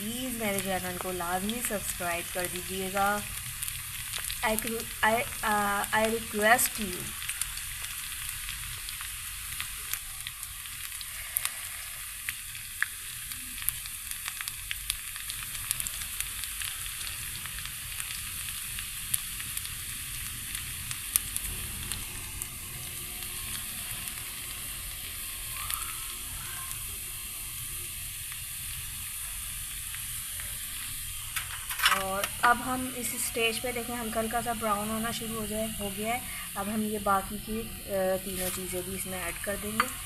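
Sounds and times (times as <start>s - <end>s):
garlic sizzling in hot oil: 0.0s - 40.0s.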